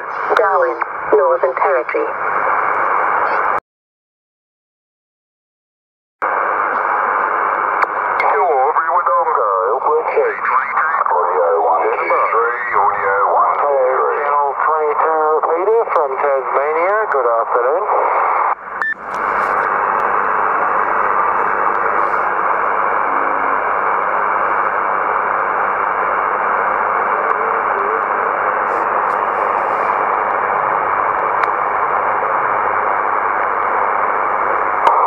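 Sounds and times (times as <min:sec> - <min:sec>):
radio static hiss: 0:00.0 - 0:03.6, 0:06.2 - 0:35.0.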